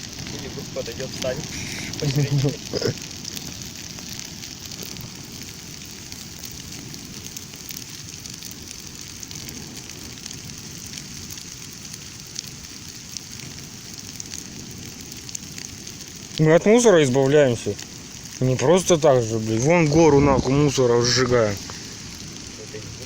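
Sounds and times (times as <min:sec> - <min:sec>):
bonfire hissing and crackling: 0:00.0 - 0:23.0
fire popping: 0:00.0 - 0:23.0.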